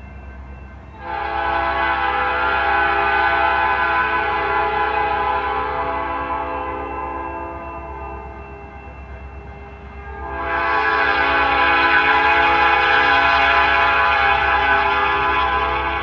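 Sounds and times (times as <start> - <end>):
train rumbling: 0.0 - 16.0
locomotive air horn blasts: 1.0 - 8.4, 10.0 - 16.0.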